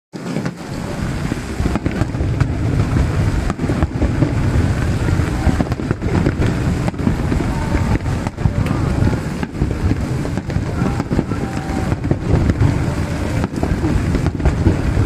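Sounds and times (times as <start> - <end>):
sharp firework cracks: 0.2 - 15.0
deep rumble of firework booms: 0.5 - 15.0.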